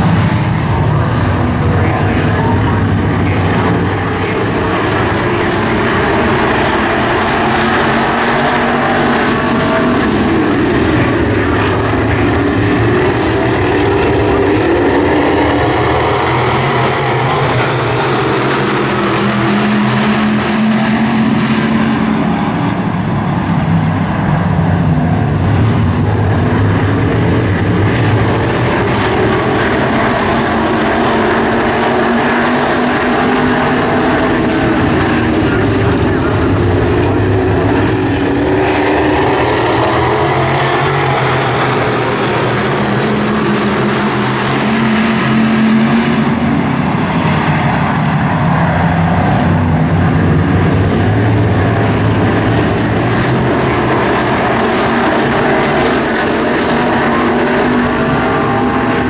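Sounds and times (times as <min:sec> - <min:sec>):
race car engines droning: 0:00.0 - 0:59.0.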